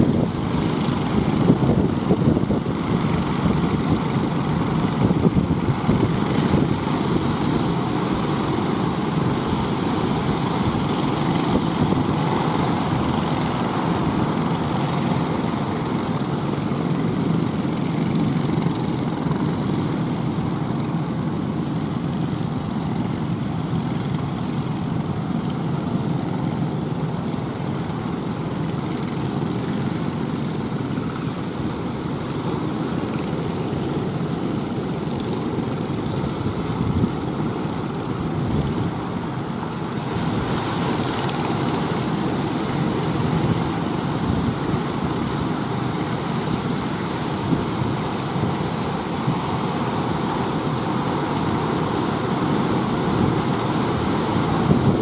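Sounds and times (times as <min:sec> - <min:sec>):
fishing boat engines running: 0:00.0 - 0:55.0
heavy surf: 0:00.0 - 0:55.0.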